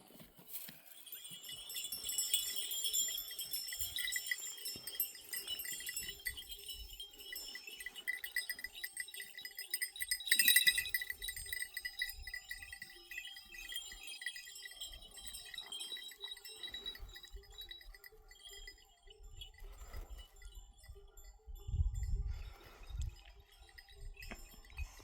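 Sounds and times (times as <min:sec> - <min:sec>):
livestock bells jangling: 0:00.0 - 0:25.0.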